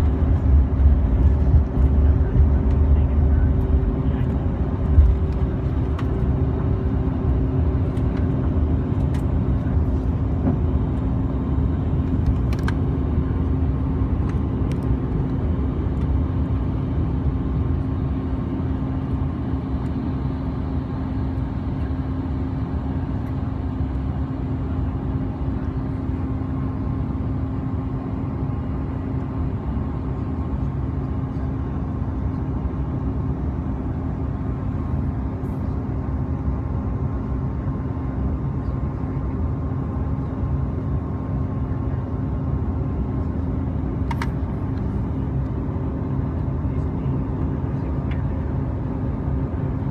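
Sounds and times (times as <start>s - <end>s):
deep runway rumble: 0.0s - 49.9s
jet engines at high thrust: 0.0s - 49.9s.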